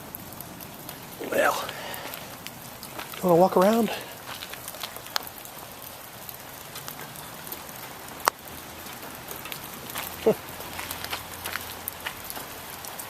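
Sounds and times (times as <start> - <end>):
wet snow pattering: 0.0 - 13.0.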